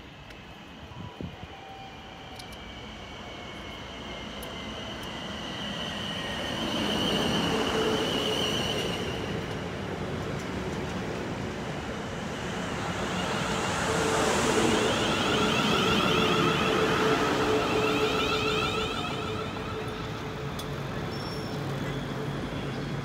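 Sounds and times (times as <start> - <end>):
train wheels rumbling on rails: 0.1 - 23.0.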